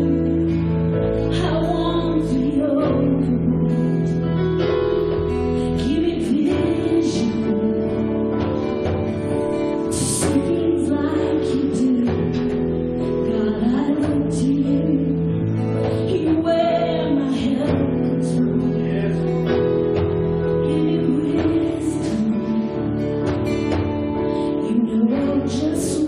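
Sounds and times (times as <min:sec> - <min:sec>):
person singing: 0:00.0 - 0:23.2, 0:24.2 - 0:26.0
worship band playing: 0:00.0 - 0:26.0.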